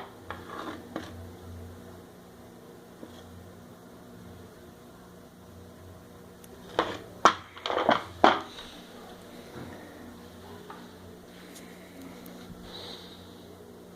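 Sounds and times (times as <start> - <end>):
faint low hum: 0.0 - 13.9.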